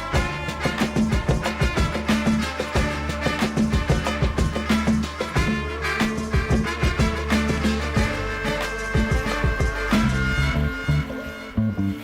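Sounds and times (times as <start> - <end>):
bowed string melody with drums: 0.0 - 11.9.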